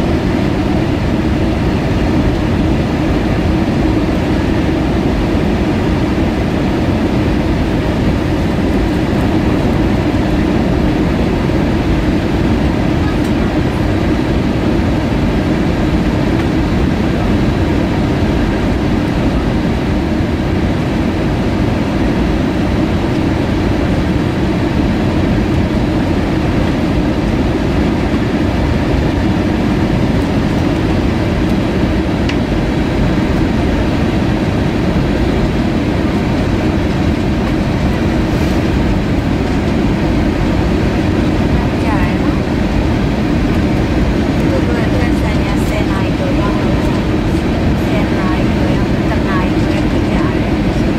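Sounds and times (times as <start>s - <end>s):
airplane cabin engine roar: 0.0s - 50.9s.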